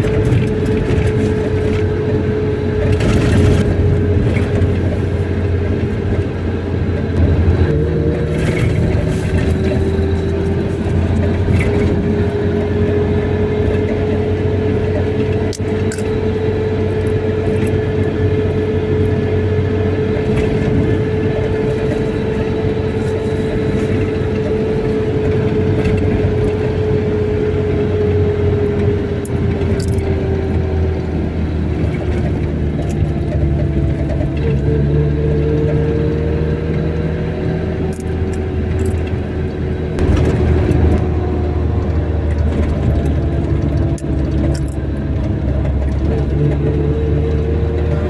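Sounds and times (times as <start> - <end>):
car engine and road drone: 0.0 - 48.0.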